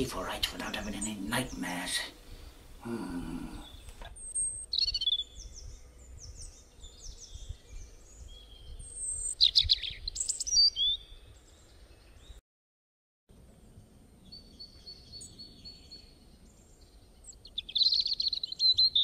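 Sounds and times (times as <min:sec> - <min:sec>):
birds chirping and calling: 0:00.0 - 0:12.4, 0:14.2 - 0:19.0.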